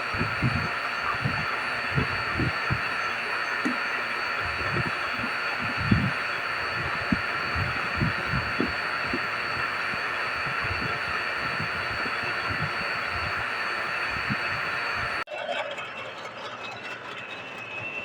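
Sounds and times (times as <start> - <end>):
vacuum pump whining: 0.0 - 15.3.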